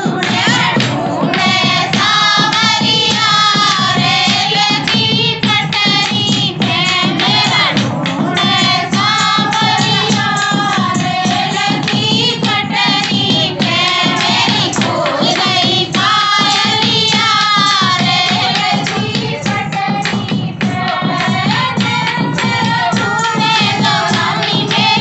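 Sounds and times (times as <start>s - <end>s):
steady beat: 0.0s - 25.0s
women singing folk dance song: 0.0s - 25.0s.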